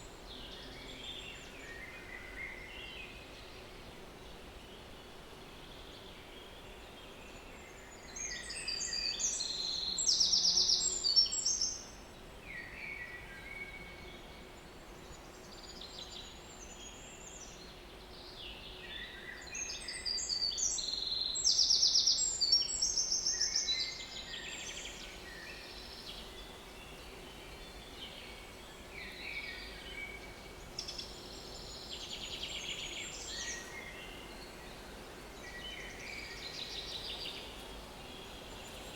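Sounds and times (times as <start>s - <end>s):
quieter birdsong: 0.0s - 38.9s.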